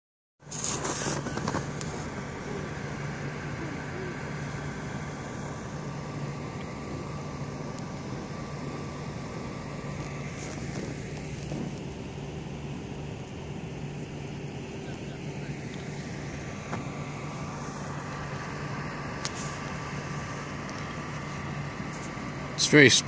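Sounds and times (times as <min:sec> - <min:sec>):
constant background noise: 0:00.4 - 0:23.0
steady low hum: 0:00.4 - 0:23.0.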